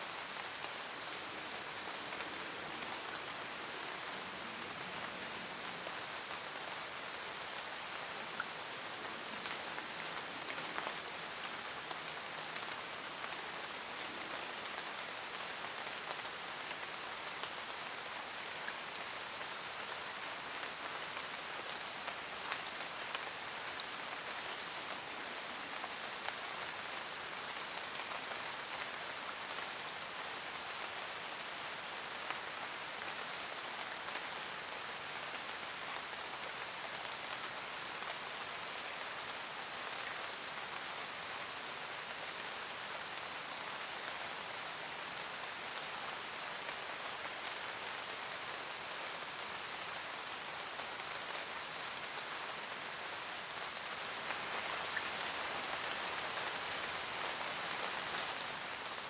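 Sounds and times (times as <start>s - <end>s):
steady rain in a forest: 0.0s - 59.0s.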